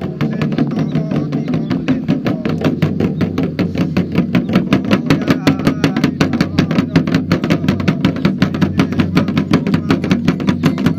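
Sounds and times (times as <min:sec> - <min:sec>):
fast ritual percussion: 0:00.0 - 0:10.9.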